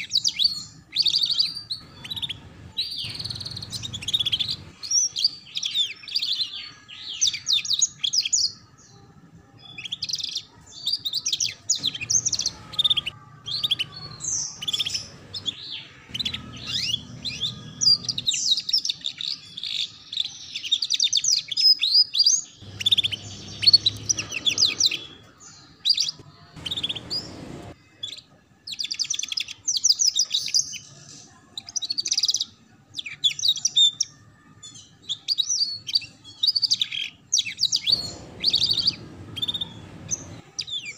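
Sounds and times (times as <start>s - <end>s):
canary singing rapid trills: 0.0s - 31.0s, 31.6s - 40.9s.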